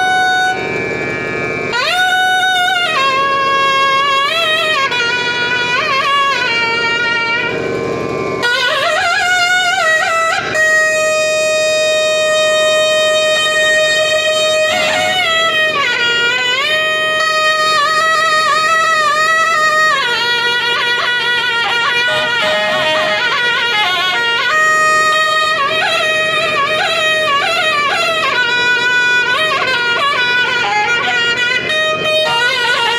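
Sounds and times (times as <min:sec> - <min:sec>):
nadaswaram playing slow melody: 0:00.0 - 0:32.9.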